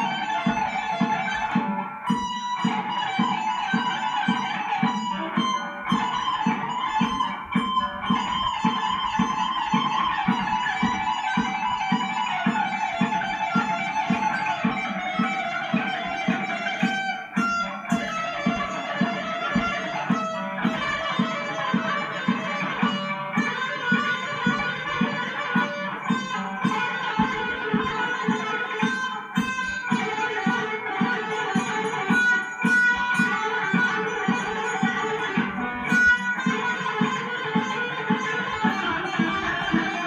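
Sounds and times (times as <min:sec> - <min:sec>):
electric guitar fast picking: 0:00.0 - 0:40.0.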